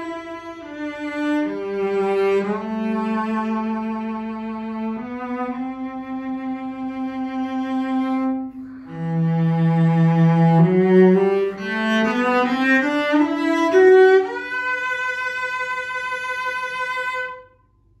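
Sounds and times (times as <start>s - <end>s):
bowed cello melody: 0.0s - 17.5s.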